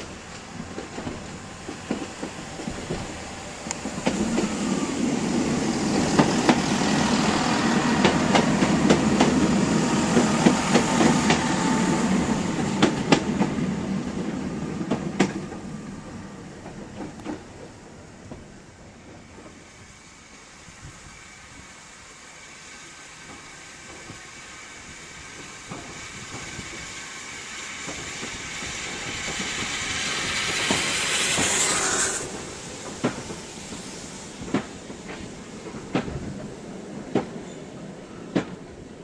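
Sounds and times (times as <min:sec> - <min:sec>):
steam locomotive hissing: 0:00.0 - 0:39.0.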